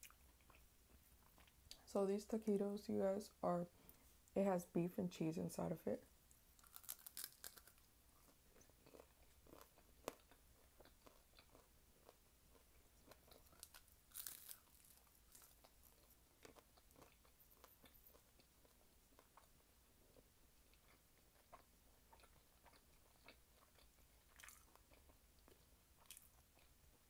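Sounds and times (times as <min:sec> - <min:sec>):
crunching and chewing fried food: 0:00.0 - 0:01.9, 0:06.3 - 0:27.0.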